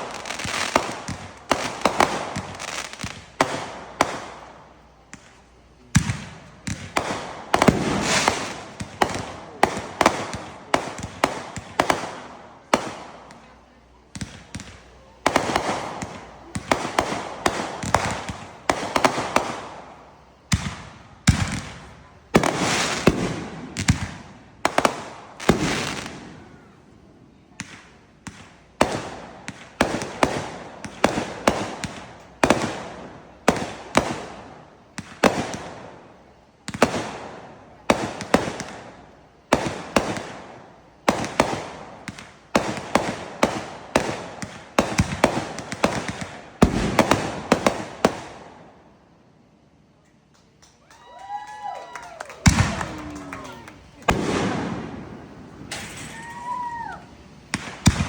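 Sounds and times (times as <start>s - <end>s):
fireworks banging: 0.0s - 49.0s, 49.9s - 58.0s.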